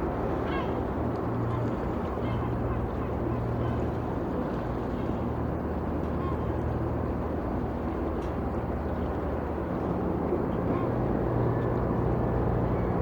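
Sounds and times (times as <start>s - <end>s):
ship engine hum: 0.0s - 13.0s.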